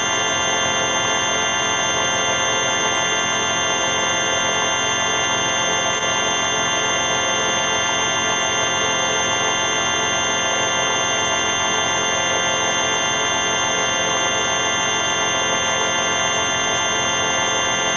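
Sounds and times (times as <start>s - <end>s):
electronic buzzing drone: 0.0s - 17.9s.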